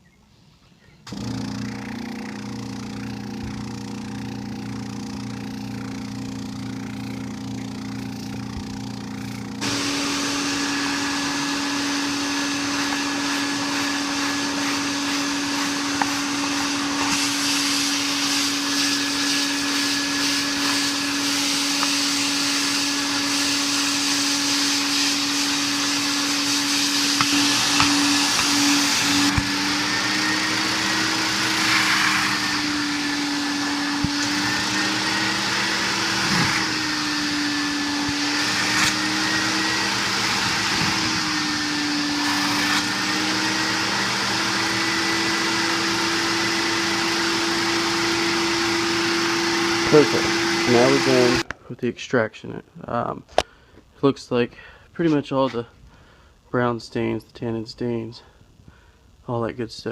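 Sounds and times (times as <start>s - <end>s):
vacuum motor whine and hiss: 1.1s - 51.5s
carpet extractor hum: 1.1s - 51.6s.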